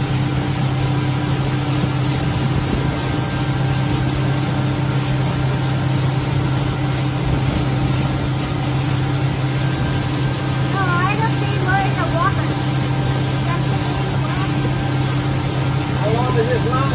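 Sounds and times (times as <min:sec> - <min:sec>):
boat engine droning: 0:00.0 - 0:16.9.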